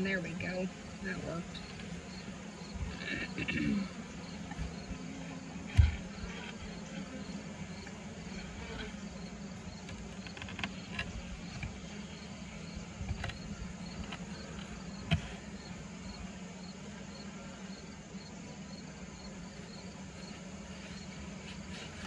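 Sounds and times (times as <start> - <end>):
bees humming: 0.0 - 22.0.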